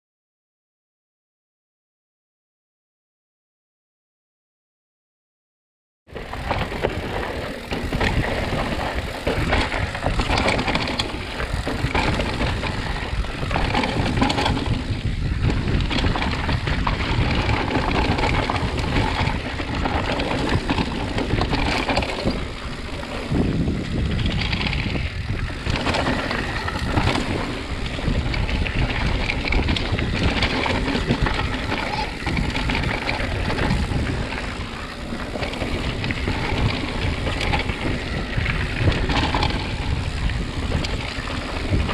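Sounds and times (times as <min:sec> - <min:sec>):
bike knocking and rattling: 0:06.1 - 0:41.9
tyres rolling on gravel: 0:06.1 - 0:41.9
wind noise on microphone: 0:06.1 - 0:41.9.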